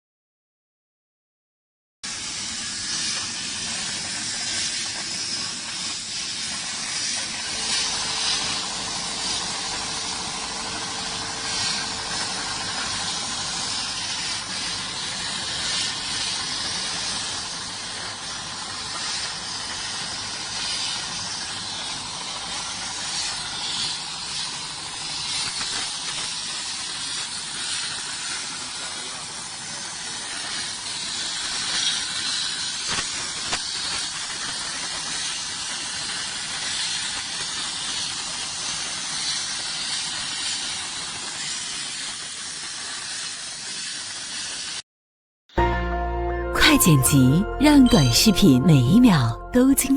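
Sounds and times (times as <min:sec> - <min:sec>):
plasma cutting torch hissing: 0:02.0 - 0:44.8.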